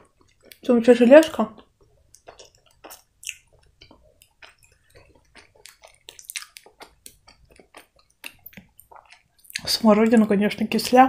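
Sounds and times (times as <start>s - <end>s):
person chewing candy: 0.0s - 0.7s, 1.5s - 9.8s.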